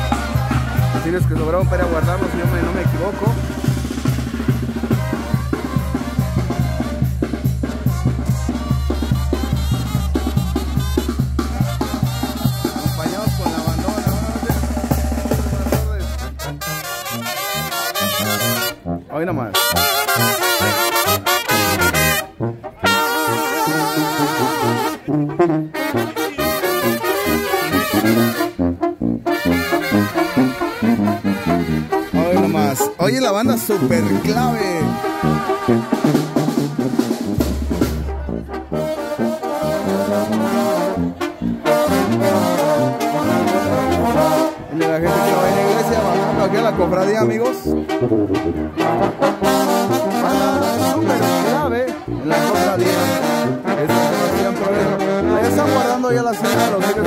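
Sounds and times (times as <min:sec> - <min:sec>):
bass drum and cymbals beat: 0:00.0 - 0:18.8, 0:19.6 - 0:47.0
brass band playing: 0:00.0 - 0:57.0.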